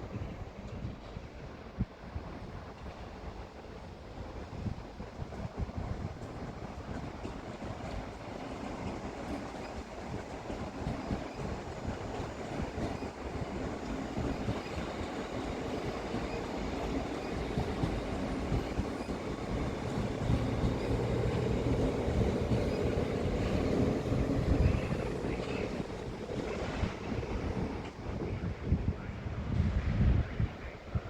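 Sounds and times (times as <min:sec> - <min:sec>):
train rumbling on tracks: 0:00.0 - 0:31.0
wind buffeting microphone: 0:00.0 - 0:31.0.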